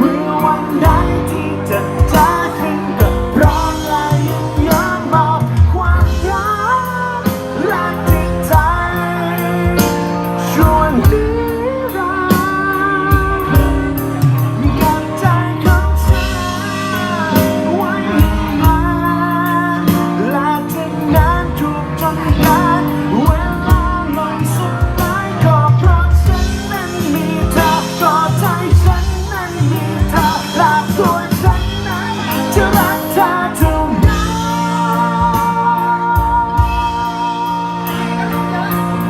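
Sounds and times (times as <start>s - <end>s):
person singing: 0.0s - 39.0s
pop band playing: 0.0s - 39.0s
regular drum beat: 0.0s - 39.0s.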